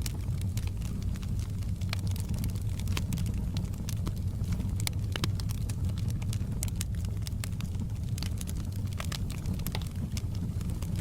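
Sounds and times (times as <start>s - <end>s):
burning wood crackling: 0.0s - 11.0s
fire rumbling: 0.0s - 11.0s.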